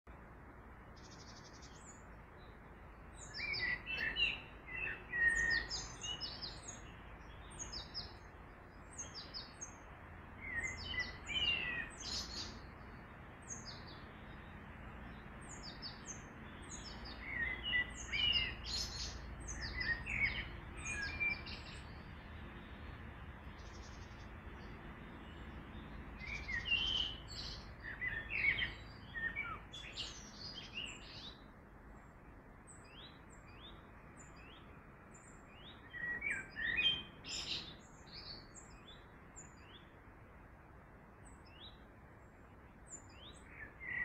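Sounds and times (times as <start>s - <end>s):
songbirds chirping and singing: 0.1s - 44.0s.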